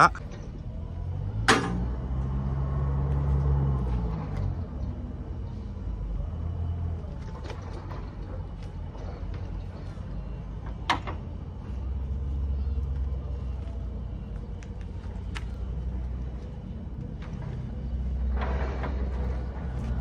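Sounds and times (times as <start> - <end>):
vehicle engine running: 0.0 - 20.0
steady low rumble: 3.2 - 20.0.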